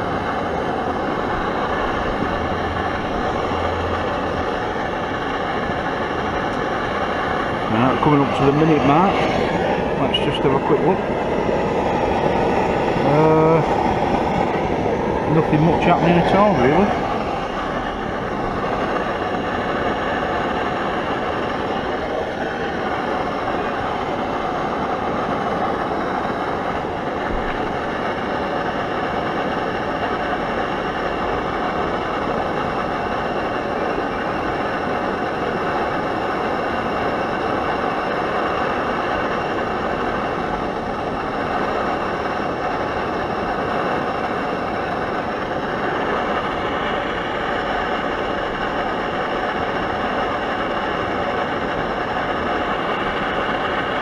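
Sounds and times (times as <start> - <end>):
gas stove hissing: 0.0 - 54.0.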